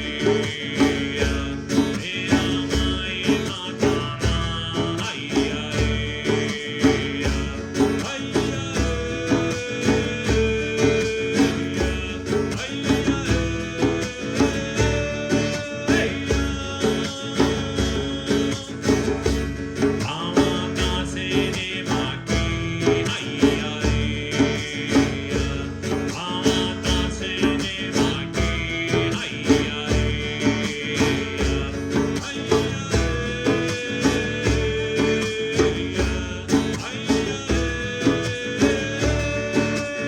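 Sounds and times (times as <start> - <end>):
person singing: 0.0 - 19.3, 19.9 - 40.0
strummed acoustic guitar: 0.0 - 40.0.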